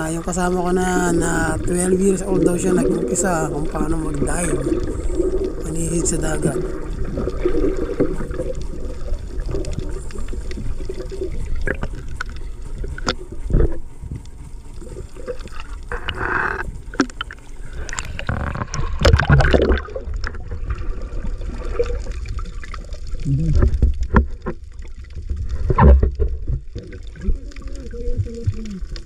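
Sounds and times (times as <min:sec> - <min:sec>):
splashing and bubbles: 0:00.0 - 0:29.0
water sloshing and gurgling: 0:00.0 - 0:29.0.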